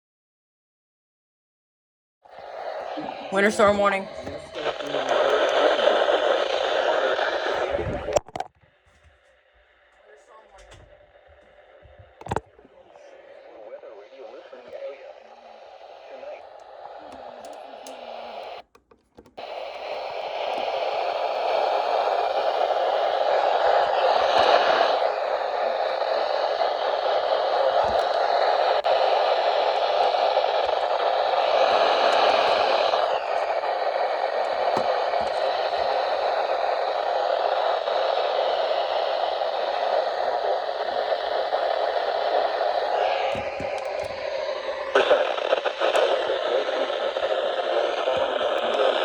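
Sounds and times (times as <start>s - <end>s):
radio static hiss: 2.3s - 49.0s.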